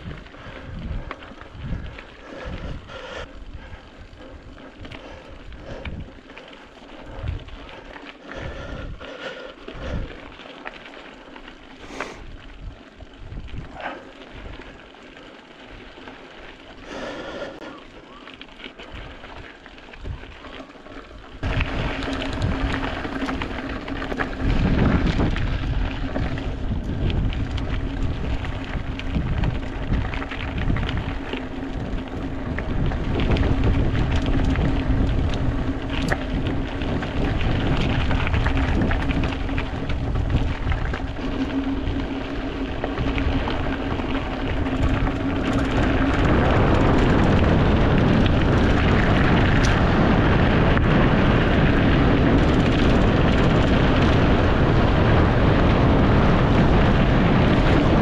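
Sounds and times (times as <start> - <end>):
wind noise: 0.0 - 10.4, 11.7 - 14.9, 18.8 - 20.5, 21.4 - 58.0
bike tyre rumble: 0.0 - 58.0.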